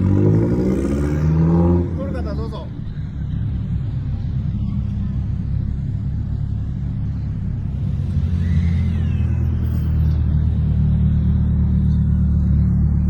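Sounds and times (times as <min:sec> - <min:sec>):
car engine rumbling at low revs: 0:00.0 - 0:13.0.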